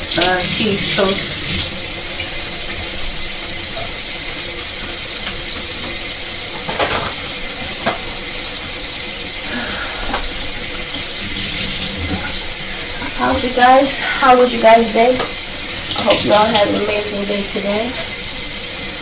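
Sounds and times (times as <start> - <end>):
kitchen tap running: 0.0 - 19.0.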